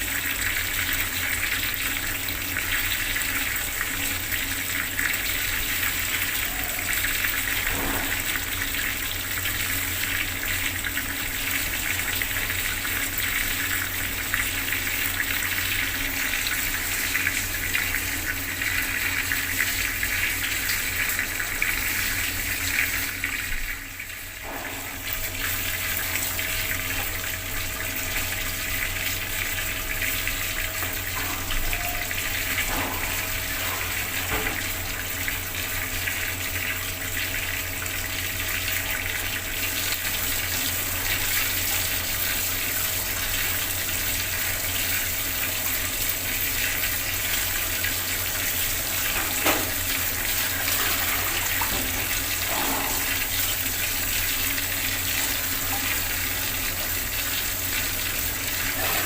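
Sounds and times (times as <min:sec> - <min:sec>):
tap water running and splashing: 0:00.0 - 0:59.0.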